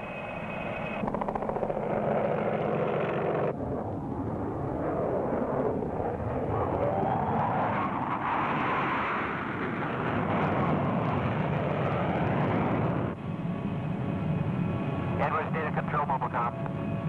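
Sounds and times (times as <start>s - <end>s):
jet climbing after take-off: 0.0s - 17.0s.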